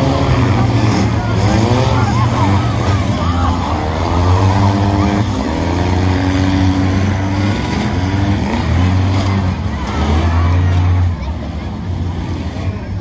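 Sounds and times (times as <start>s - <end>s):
race car engines accelerating: 0.0s - 13.0s.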